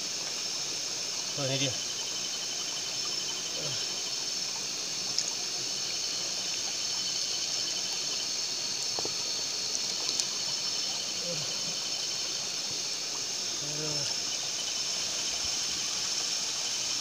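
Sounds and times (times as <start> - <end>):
high-pitched insect chorus: 0.0 - 17.0
stream trickling over rocks: 0.0 - 17.0.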